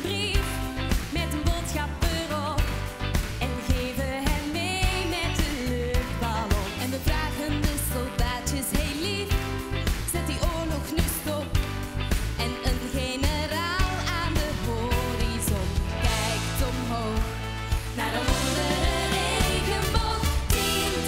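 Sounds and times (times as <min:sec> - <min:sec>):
women singing pop song: 0:00.0 - 0:11.7, 0:12.4 - 0:21.0
band with drum beat: 0:00.4 - 0:21.0.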